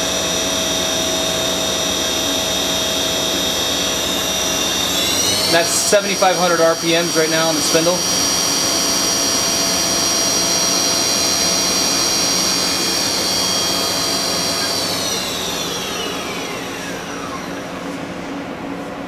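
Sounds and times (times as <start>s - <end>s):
machine spindle whining: 0.0s - 19.0s.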